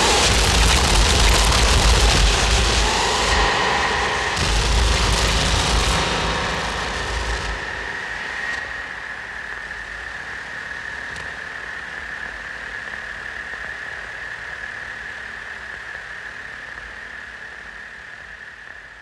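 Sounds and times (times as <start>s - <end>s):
synthesizer hiss: 0.0s - 19.0s.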